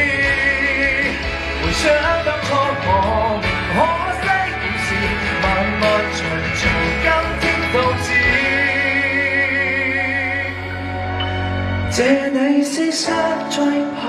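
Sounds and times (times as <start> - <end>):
band music: 0.0 - 14.0
man singing with vibrato: 0.0 - 14.0.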